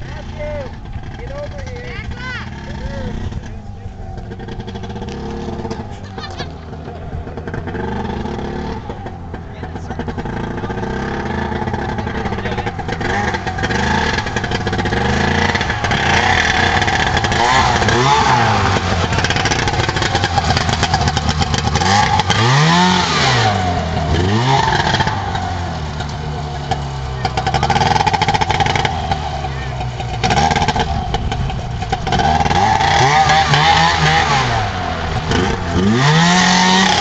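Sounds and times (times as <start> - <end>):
golf cart engine revving: 0.0 - 37.0.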